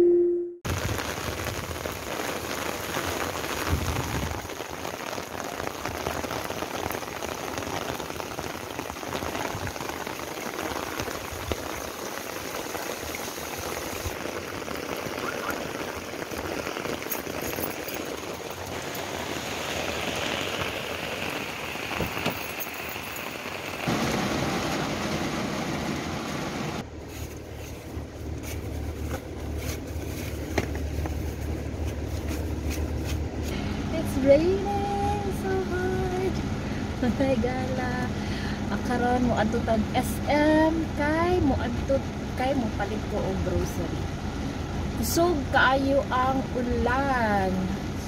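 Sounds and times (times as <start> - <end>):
heavy rain on wet ground: 0.7 - 26.9, 27.9 - 48.0.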